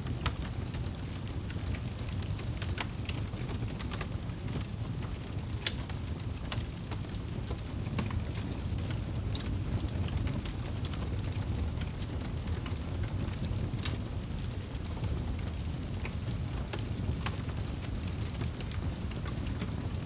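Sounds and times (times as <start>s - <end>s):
firewood crackling and popping: 0.0s - 20.0s
low rumble of flames: 0.0s - 20.0s.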